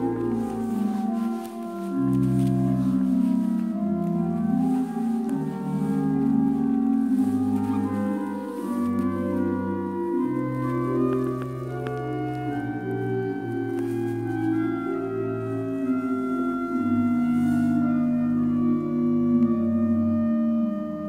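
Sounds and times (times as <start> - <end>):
organ playing slow chords: 0.0 - 21.0.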